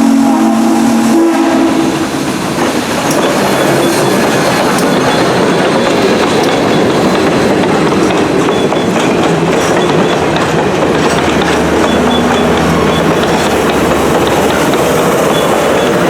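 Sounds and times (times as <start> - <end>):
train wheels clicking over rail joints: 1.8 - 16.0.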